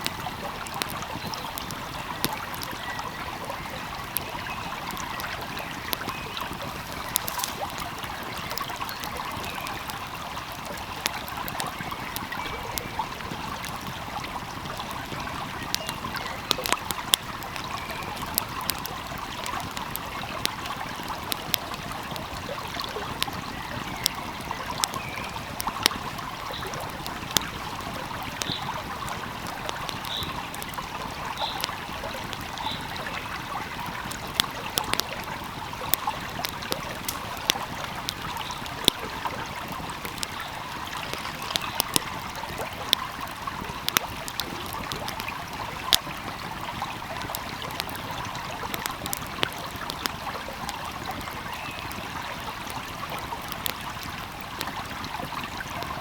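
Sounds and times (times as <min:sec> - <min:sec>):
flowing stream: 0:00.0 - 0:56.0
wood fire crackling: 0:00.0 - 0:56.0.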